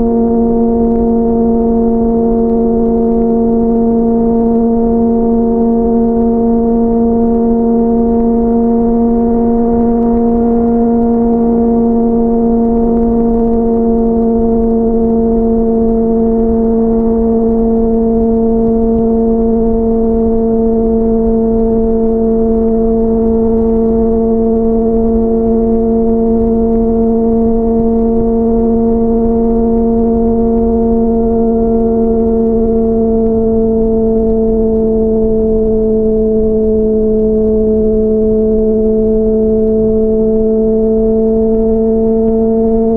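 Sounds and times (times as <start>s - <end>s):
wind rumble on microphone: 0.0s - 42.9s.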